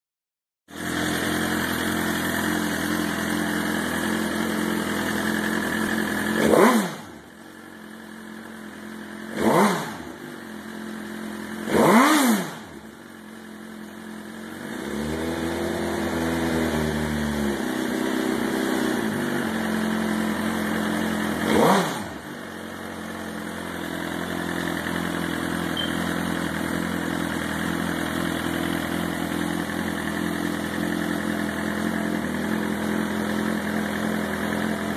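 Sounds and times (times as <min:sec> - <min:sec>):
motorcycle engine idling and revving: 0:00.7 - 0:34.9.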